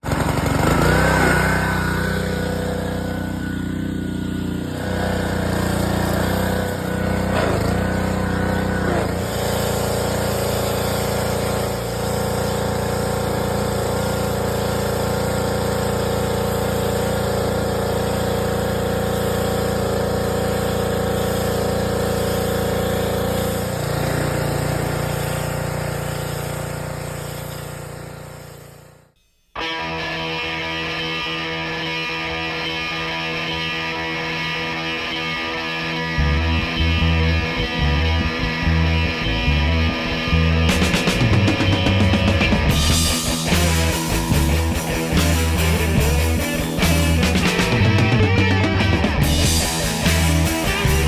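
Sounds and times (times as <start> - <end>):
engine running: 0.0 - 29.1, 33.5 - 51.0.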